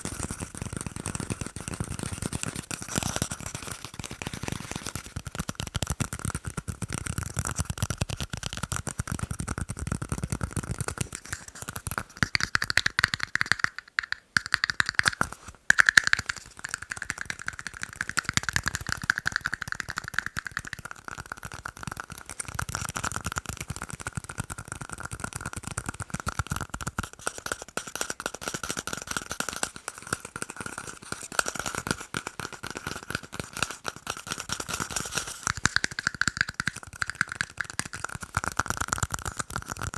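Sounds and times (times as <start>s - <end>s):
fast tapping on tiny cups: 0.0s - 39.9s.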